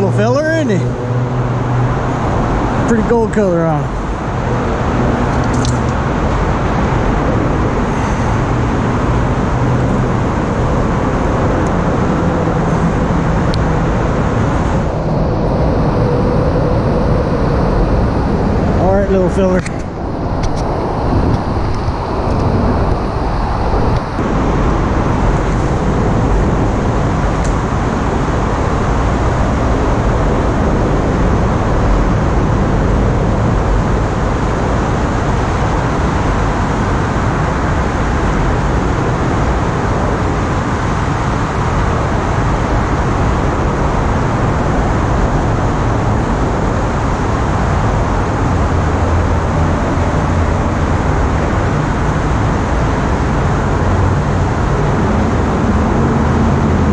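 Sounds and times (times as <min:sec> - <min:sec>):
traffic rumbling on bridge overhead: 0:00.0 - 0:56.9.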